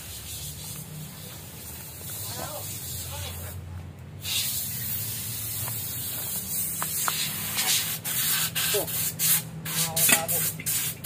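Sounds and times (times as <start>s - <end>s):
compressed air hissing: 0.0s - 3.6s, 4.2s - 11.0s.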